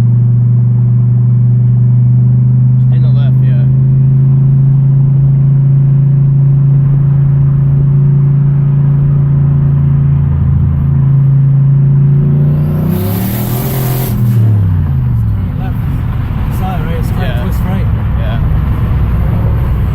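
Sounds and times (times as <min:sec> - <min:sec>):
turbocharged car engine drone: 0:00.0 - 0:19.9.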